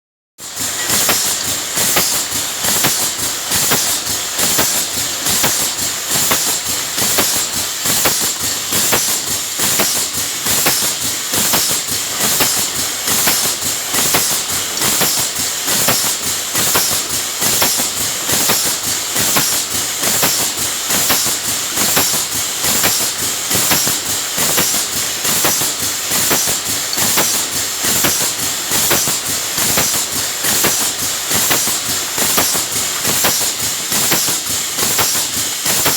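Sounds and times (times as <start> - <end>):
machine valves clicking: 0.4 - 35.9
compressed-air hiss: 0.5 - 35.9.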